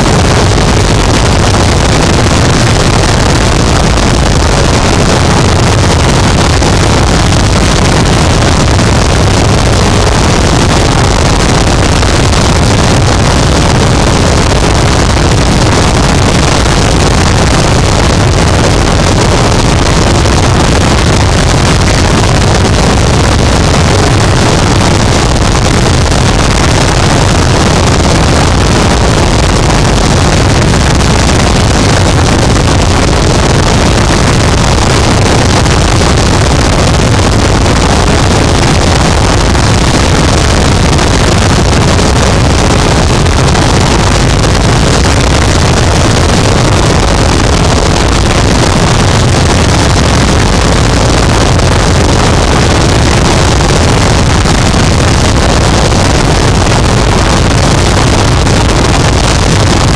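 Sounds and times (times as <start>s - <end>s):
heavily distorted static noise: 0.0s - 59.9s.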